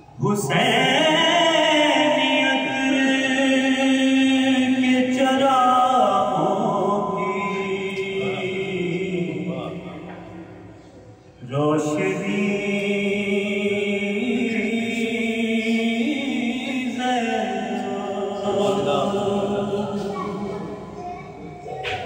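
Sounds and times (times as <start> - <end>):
man chanting unaccompanied: 0.1 - 10.8, 11.4 - 20.9.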